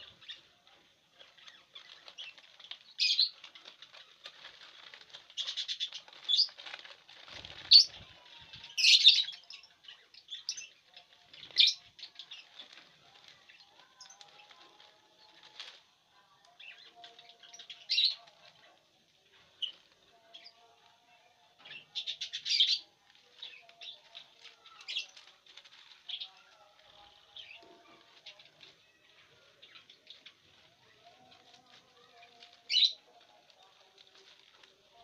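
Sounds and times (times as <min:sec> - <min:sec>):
lovebirds chirping: 0:00.0 - 0:35.0.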